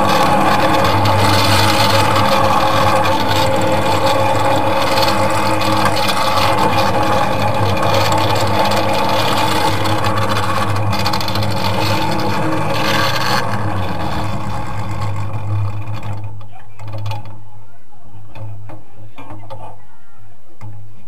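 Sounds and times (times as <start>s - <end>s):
miniature locomotive engine humming: 0.0s - 21.0s.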